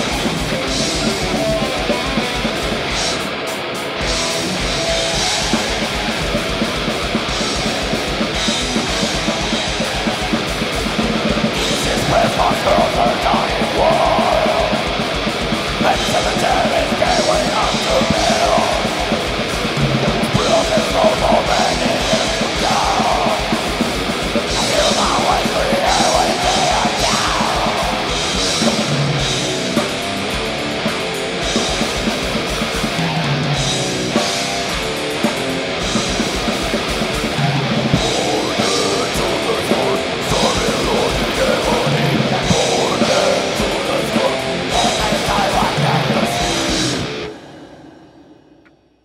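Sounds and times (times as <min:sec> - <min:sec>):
distorted electric guitars riffing: 0:00.0 - 0:47.7.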